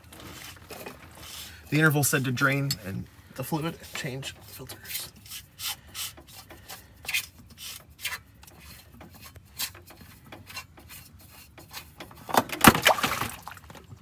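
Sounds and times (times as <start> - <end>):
filter rubbing and scraping: 0.0 - 12.6.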